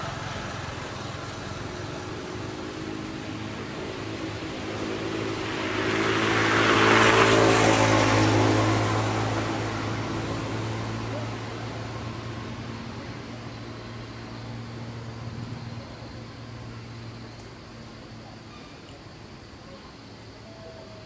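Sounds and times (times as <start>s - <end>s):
vehicle passing by: 0.0s - 17.3s
low engine hum: 0.0s - 19.5s.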